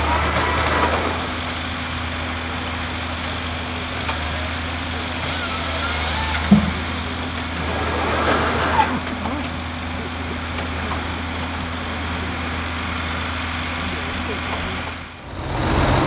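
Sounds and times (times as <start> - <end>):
logging machine engine idling: 0.0 - 16.0.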